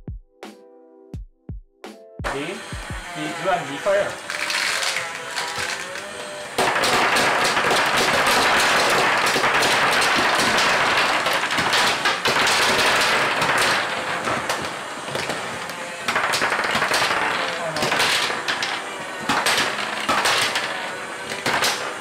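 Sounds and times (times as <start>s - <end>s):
plastic marbles clattering on wood: 3.1s - 22.0s.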